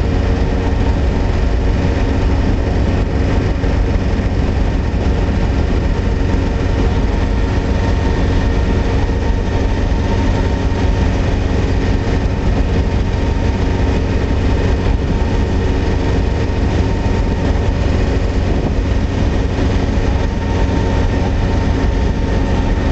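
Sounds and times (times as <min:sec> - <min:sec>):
road noise: 0:00.0 - 0:22.9
truck engine cruising: 0:00.0 - 0:22.9.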